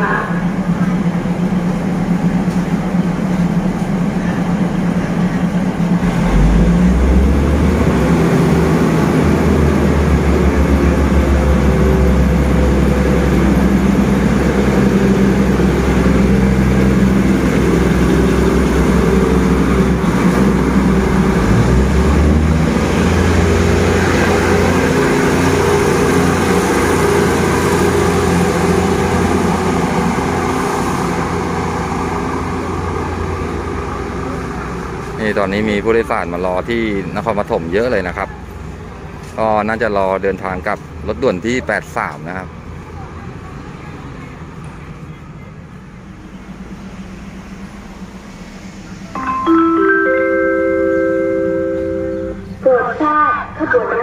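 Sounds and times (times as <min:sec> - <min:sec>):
diesel train engines running: 0:00.0 - 0:54.0
train wheels rolling on rails: 0:00.4 - 0:36.0, 0:42.0 - 0:49.9.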